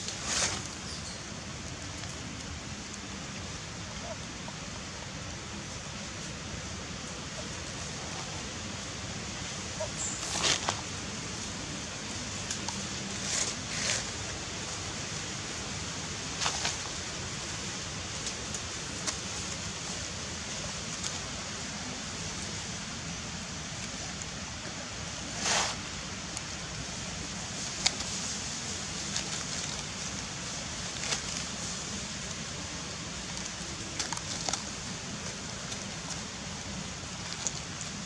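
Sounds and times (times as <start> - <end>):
dry leaves rustling: 0.0 - 38.0
steady outdoor hiss: 0.0 - 38.0.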